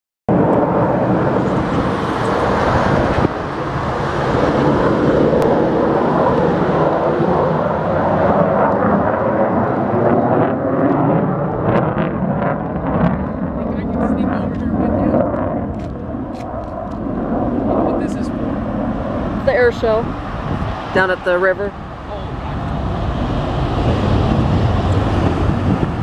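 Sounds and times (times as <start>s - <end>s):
jet aircraft flying overhead: 0.3s - 26.0s.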